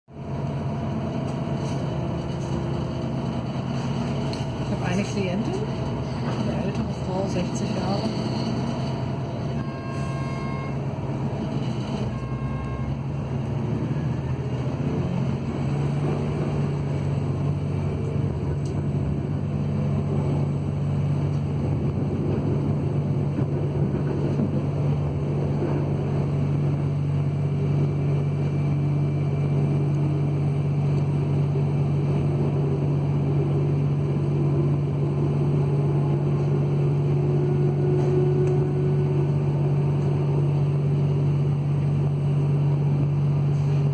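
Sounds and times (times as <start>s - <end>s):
diesel train drone: 0.1s - 43.9s.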